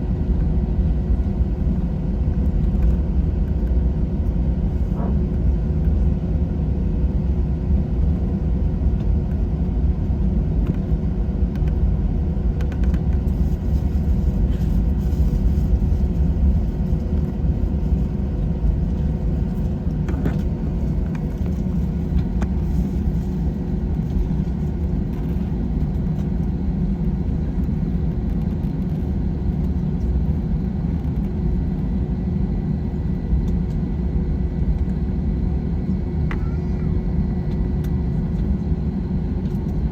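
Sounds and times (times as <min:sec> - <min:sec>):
aircraft engine rumble: 0:00.0 - 0:39.9.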